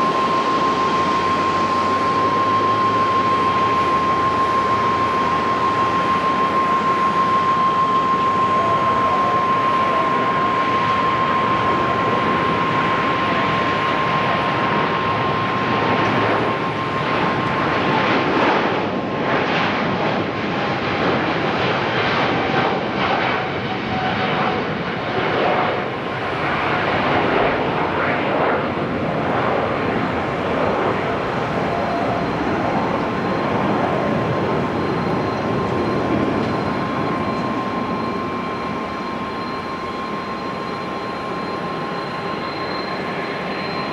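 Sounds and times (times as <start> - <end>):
jet engines roaring with whine: 0.0 - 43.9.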